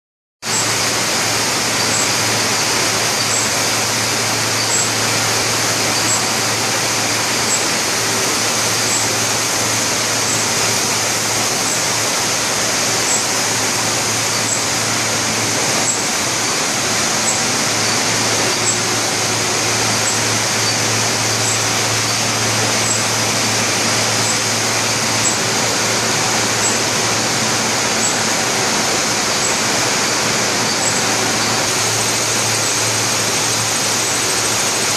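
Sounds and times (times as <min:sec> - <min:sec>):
humidifier nozzles hissing: 0:00.5 - 0:34.9
textile machines humming: 0:00.5 - 0:34.9.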